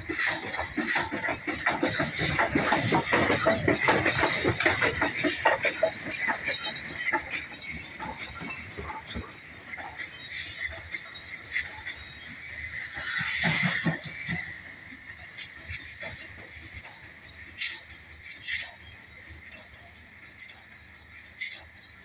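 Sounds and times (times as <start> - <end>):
steam locomotive chuffs and clanks: 0.0 - 22.0.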